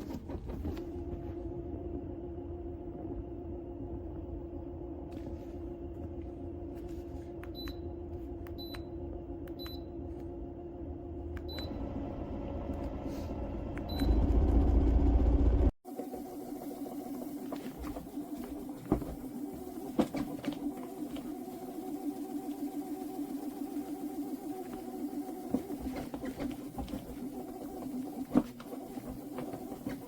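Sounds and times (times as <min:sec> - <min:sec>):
motor humming: 0:00.0 - 0:30.0.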